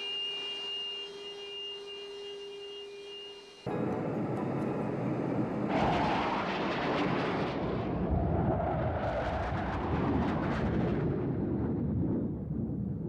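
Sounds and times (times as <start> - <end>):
jet engines roaring: 0.0 - 12.7.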